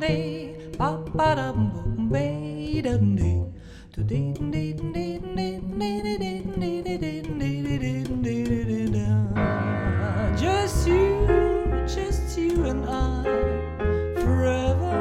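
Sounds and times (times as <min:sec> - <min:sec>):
plucked double bass: 0:00.0 - 0:15.0.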